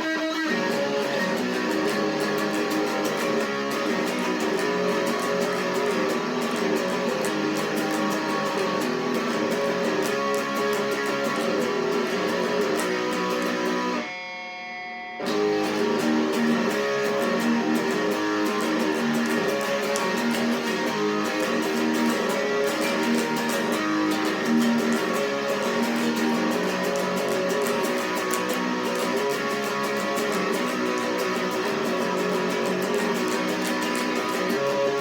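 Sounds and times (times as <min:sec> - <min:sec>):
electric guitar strumming: 0:00.0 - 0:35.0.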